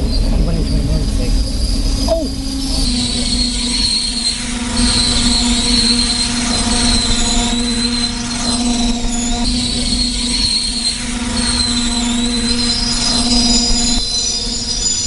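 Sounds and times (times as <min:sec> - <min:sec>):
low rumble and hum: 0:00.0 - 0:15.0
brake and wheel squeal: 0:01.5 - 0:15.0.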